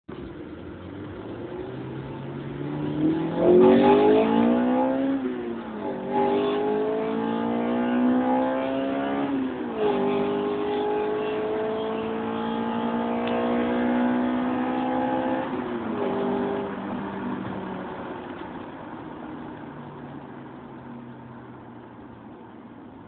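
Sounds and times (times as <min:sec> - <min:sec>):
car engine accelerating: 0:00.1 - 0:23.0.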